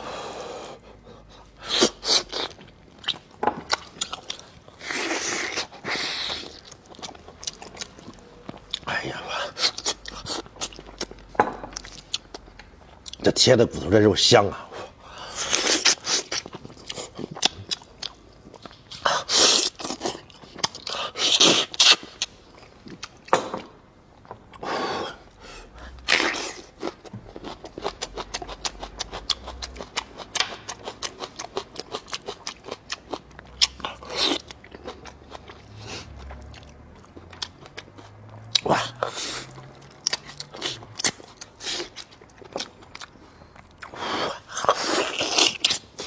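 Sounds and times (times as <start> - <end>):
chewing meat: 1.1 - 13.3, 15.3 - 23.3, 25.8 - 46.0.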